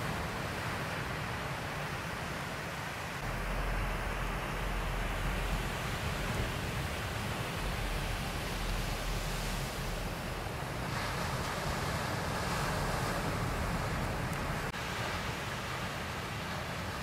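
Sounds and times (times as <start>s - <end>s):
ocean surf breaking: 0.0s - 17.0s
wind rumbling on microphone: 3.1s - 17.0s.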